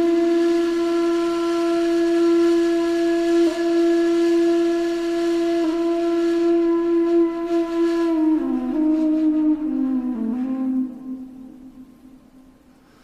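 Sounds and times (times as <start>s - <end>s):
flute-like long steady note: 0.0s - 13.0s.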